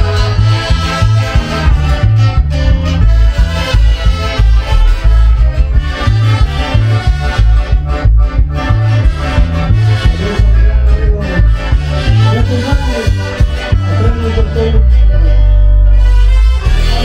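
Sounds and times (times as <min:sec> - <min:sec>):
band playing latin dance music: 0:00.0 - 0:17.0
heavy bass line: 0:00.0 - 0:17.0.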